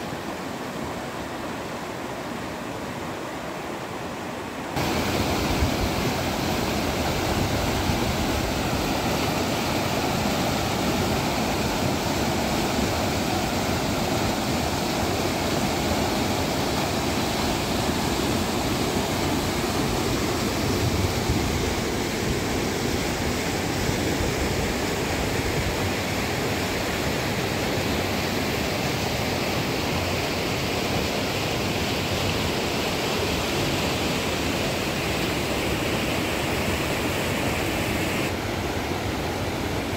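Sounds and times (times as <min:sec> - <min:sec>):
river water running over cascade: 0:00.0 - 0:39.9.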